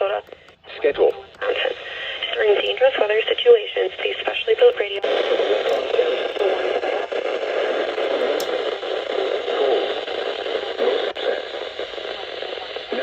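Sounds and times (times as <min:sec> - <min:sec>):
radio static hiss and crackle: 0:00.0 - 0:13.0.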